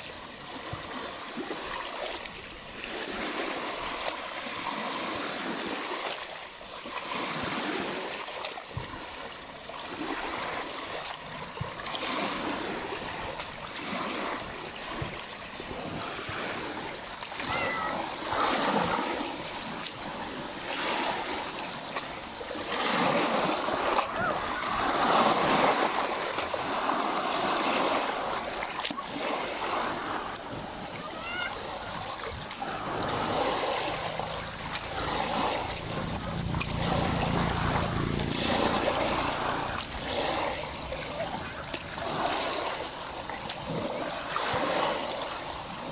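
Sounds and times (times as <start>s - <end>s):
waves lapping at shore: 0.0s - 45.9s.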